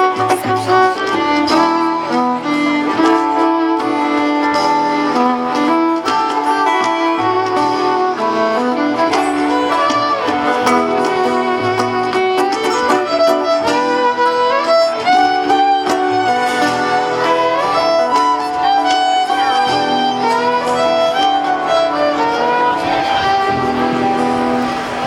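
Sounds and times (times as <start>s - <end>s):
fiddle sliding notes: 0.0s - 25.0s
folk string band playing: 0.0s - 25.0s.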